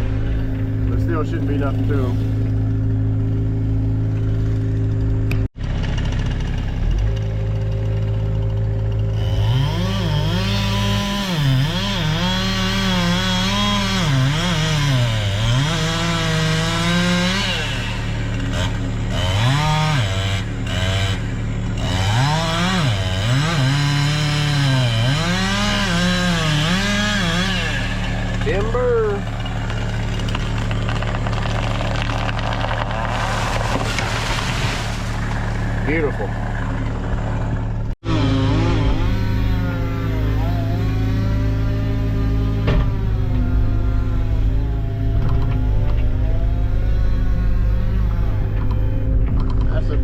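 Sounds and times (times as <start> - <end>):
chainsaw cutting wood: 1.5 - 48.9.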